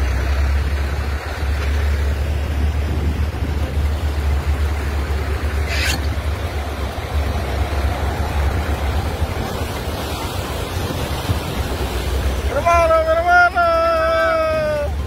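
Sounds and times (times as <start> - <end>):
wind buffeting microphone: 0.0 - 12.5
vehicles driving through floodwater: 0.0 - 15.0.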